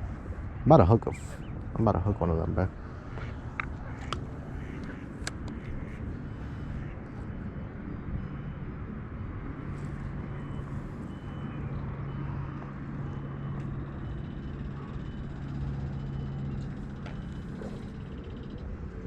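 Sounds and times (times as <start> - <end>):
low engine-like hum: 0.0 - 19.0
rumbling outdoor background noise: 0.0 - 19.0.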